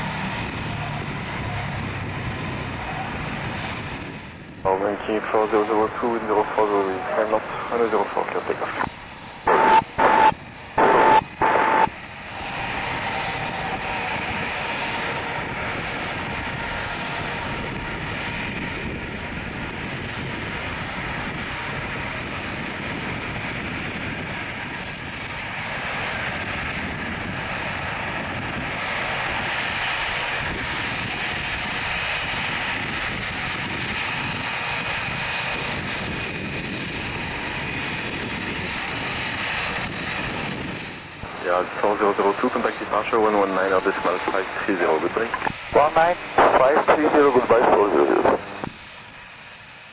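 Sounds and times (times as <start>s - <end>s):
high engine whine: 0.0s - 49.9s
jet engines at takeoff thrust: 0.0s - 49.9s.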